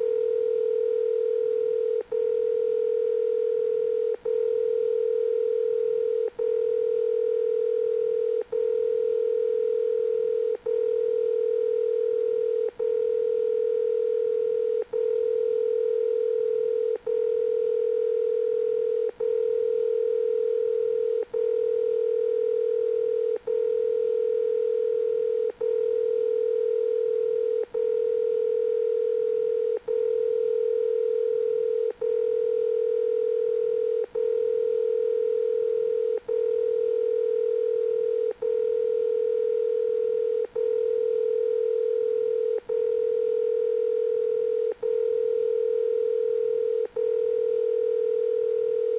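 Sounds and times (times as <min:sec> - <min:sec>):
telephone dial tone: 0:00.0 - 0:48.9.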